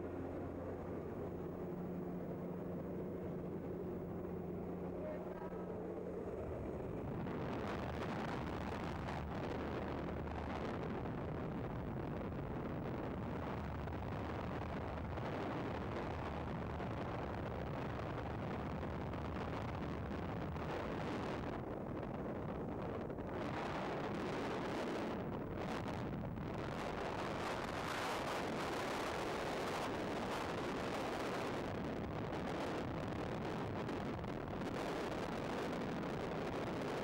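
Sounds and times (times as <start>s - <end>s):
plane engine droning: 0.0s - 37.0s
wind buffeting microphone: 0.0s - 37.0s.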